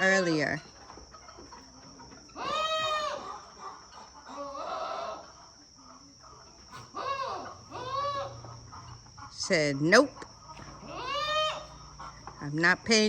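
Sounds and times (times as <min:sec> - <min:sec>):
farm animal calling: 0:00.0 - 0:13.0.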